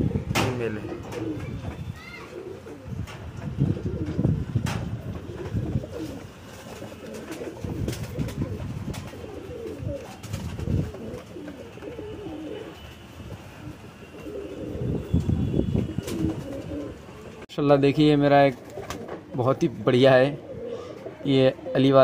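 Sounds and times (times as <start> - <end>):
pigeon cooing: 0.0 - 4.3, 5.1 - 17.4, 20.4 - 22.0.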